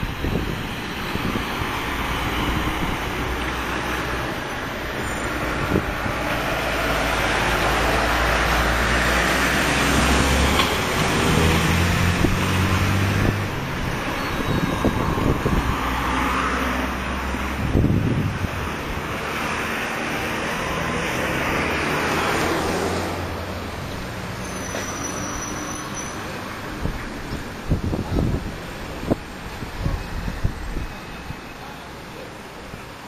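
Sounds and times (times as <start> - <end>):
cars and truck driving past: 0.0 - 33.0.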